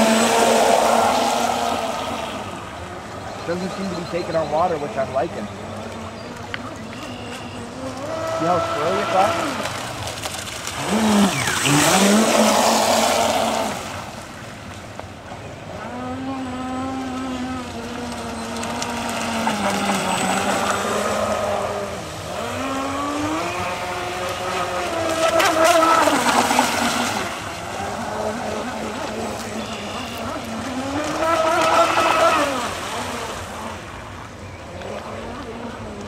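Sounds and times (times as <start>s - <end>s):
model boat electric motor whining: 0.0s - 14.2s, 15.6s - 33.9s.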